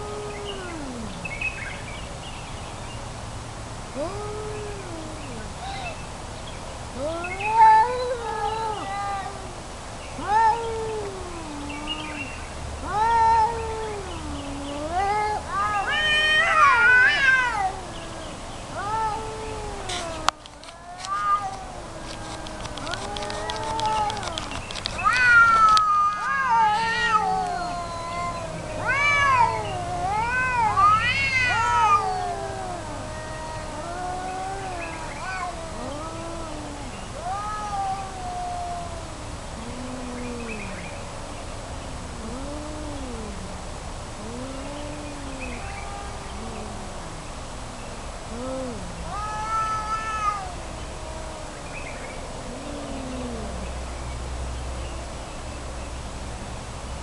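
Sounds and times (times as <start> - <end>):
cats yowling: 0.0 - 1.5, 3.9 - 6.0, 6.9 - 53.9.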